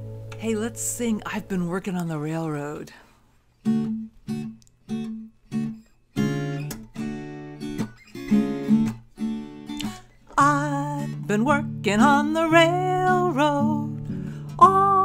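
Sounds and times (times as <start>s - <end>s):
acoustic guitar strumming: 0.0s - 2.6s, 3.6s - 15.0s.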